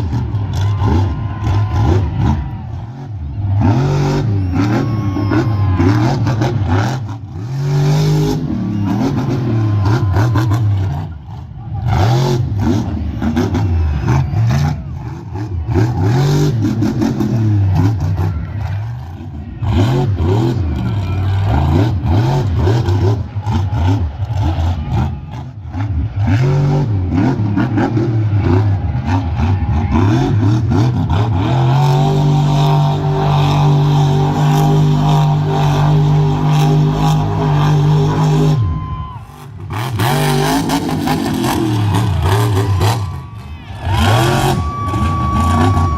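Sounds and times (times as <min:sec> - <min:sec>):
truck engine revving hard: 0:00.0 - 0:45.9.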